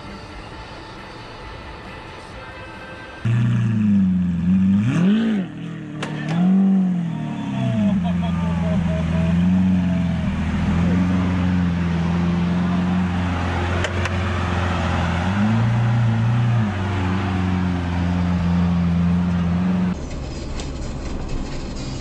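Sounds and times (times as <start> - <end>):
car engine running: 3.3 - 22.0.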